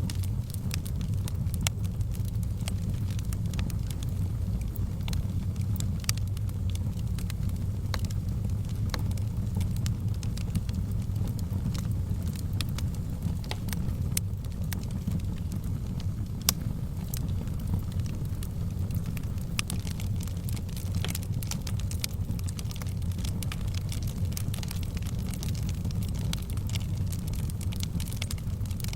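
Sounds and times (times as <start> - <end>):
fire crackling in a fireplace: 0.0 - 28.9.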